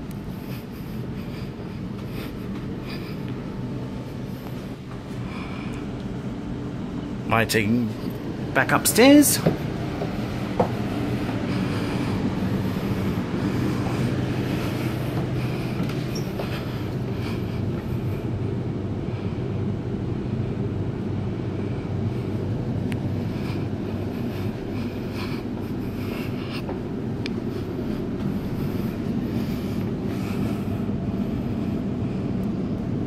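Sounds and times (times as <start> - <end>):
train carriage rumble and hum: 0.0 - 33.0.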